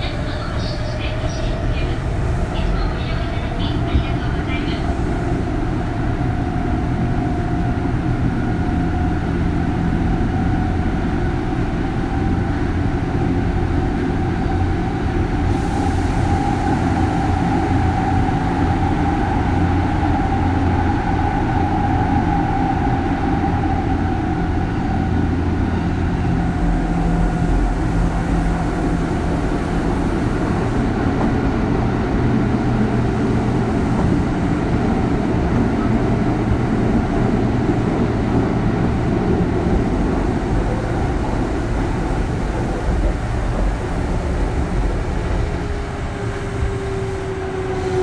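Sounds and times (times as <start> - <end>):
train inverter and motor whine: 0.0 - 48.0
wheel and rail rumble: 0.0 - 48.0.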